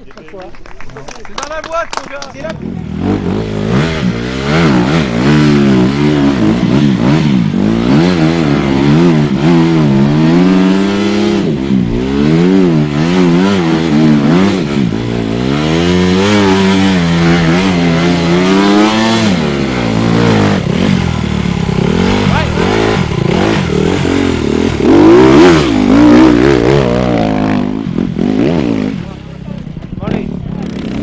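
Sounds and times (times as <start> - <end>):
dirt bike engine revving: 2.4 - 31.0.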